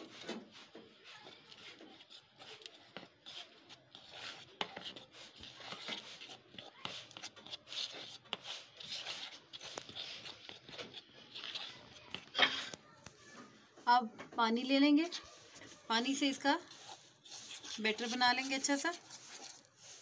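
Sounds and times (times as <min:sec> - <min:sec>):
spoon stirring flour in a bowl: 0:00.0 - 0:13.0, 0:15.0 - 0:20.0.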